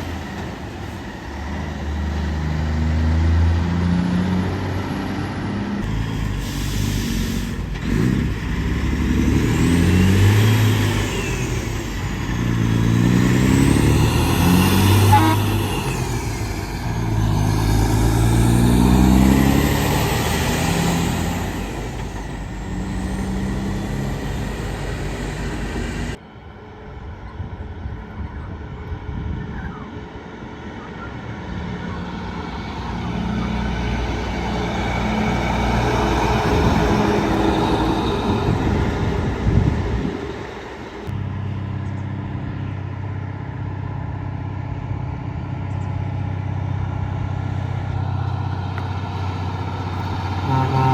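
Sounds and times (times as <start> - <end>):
tyre and road noise: 0.0 - 26.2, 28.0 - 50.9
heavy truck engine drone: 0.0 - 50.9.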